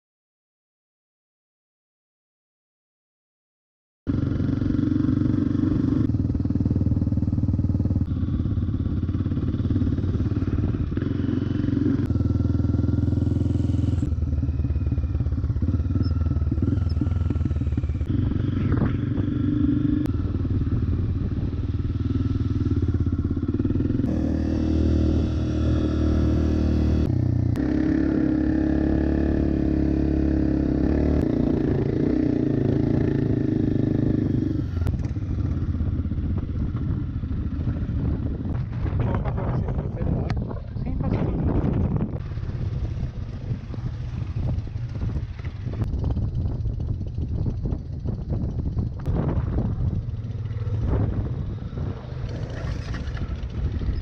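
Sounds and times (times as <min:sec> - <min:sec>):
dirt bike engine running: 0:04.1 - 0:54.0.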